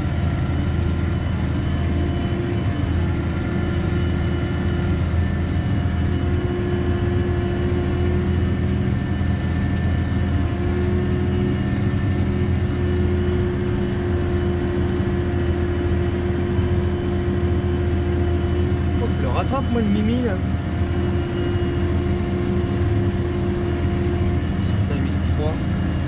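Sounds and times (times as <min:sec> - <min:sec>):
tractor diesel engine drone: 0:00.0 - 0:26.0.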